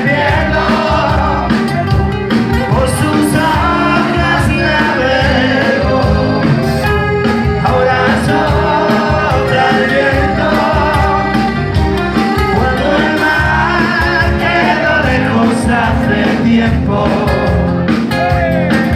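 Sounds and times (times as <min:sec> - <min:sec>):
pop-rock band playing: 0:00.0 - 0:18.9
steady drum beat: 0:00.0 - 0:18.9.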